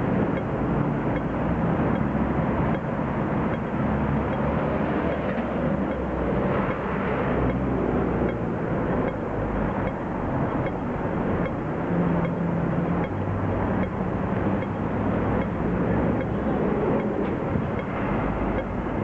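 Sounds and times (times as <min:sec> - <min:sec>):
car and truck engines passing: 0:00.0 - 0:19.0
city traffic: 0:00.0 - 0:19.0
pedestrian crossing signal ticking: 0:00.0 - 0:19.0.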